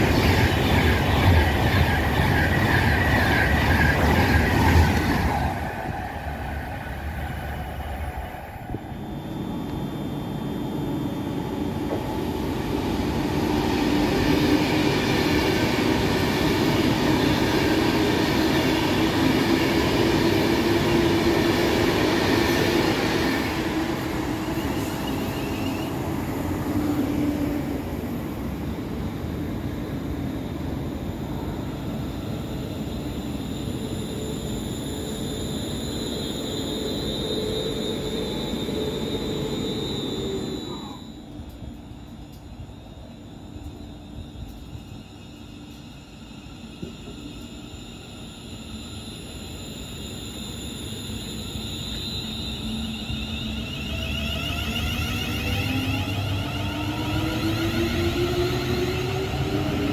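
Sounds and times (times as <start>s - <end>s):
trains running with hum and whine: 0.0s - 59.9s.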